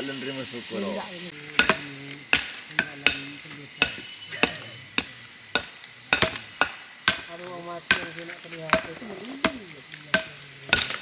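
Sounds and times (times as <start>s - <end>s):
blade chopping wood: 1.6s - 11.0s.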